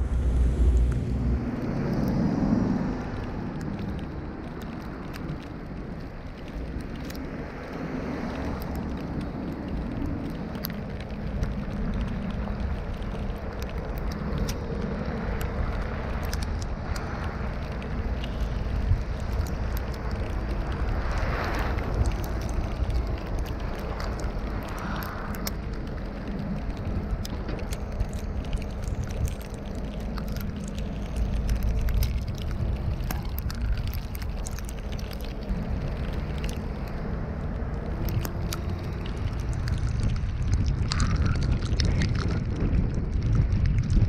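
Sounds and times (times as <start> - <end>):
car engine and road noise: 0.0 - 44.0
small clicks and ticks: 0.0 - 44.0.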